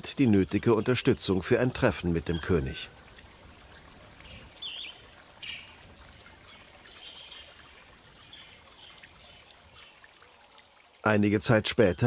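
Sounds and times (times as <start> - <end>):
fountain water trickling: 0.0 - 12.0.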